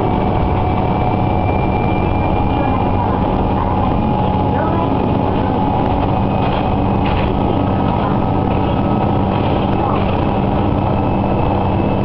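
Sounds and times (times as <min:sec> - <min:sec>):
diesel engine drone: 0:00.0 - 0:12.0
wheels rumbling on rails: 0:00.0 - 0:12.0.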